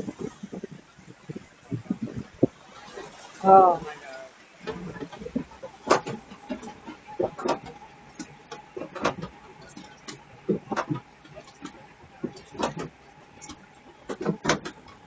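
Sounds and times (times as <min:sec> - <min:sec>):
boat knocking along channel: 0:00.0 - 0:15.0.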